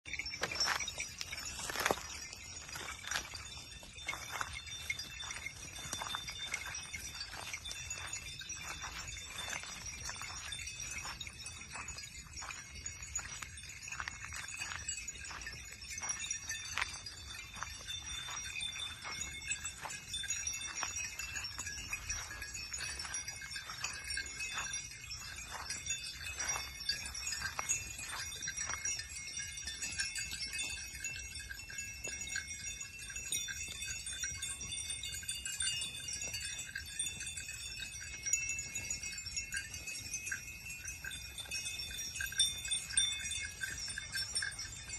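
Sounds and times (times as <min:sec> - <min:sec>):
cow bells clanking: 0:00.0 - 0:44.9.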